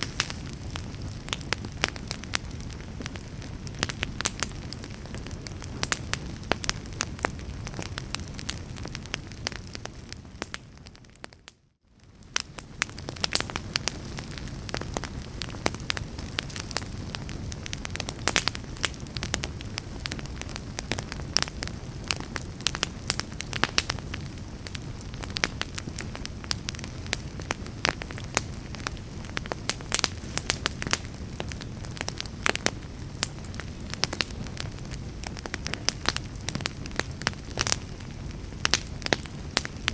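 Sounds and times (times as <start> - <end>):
fire pops and snaps: 0.0 - 39.9
log fire crackling: 0.0 - 39.9.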